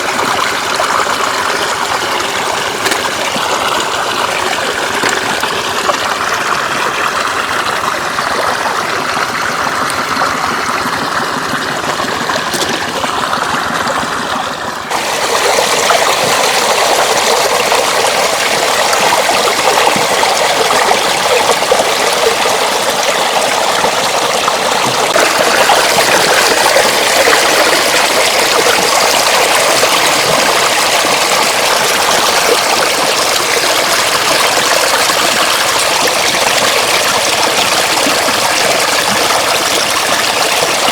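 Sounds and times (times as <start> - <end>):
floodwater flowing over road: 0.0 - 40.9.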